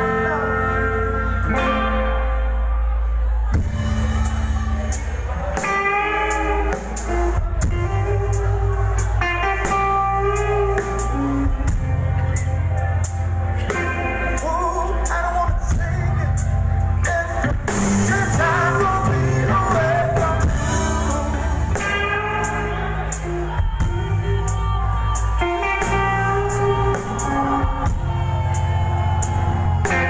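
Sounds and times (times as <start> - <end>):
electric guitar: 0.0 - 30.0
person singing: 3.5 - 30.0
steady drum beat: 3.5 - 30.0.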